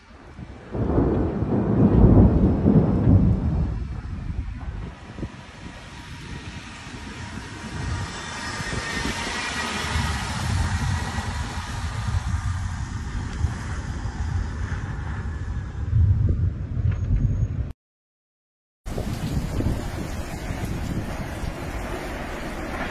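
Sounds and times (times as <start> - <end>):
storm wind buffeting microphone: 0.0 - 17.7, 18.9 - 22.9.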